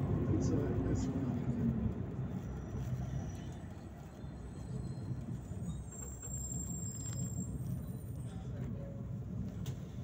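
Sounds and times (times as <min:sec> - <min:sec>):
bus cabin noise: 0:00.0 - 0:10.0
bus engine rumble: 0:00.0 - 0:10.0.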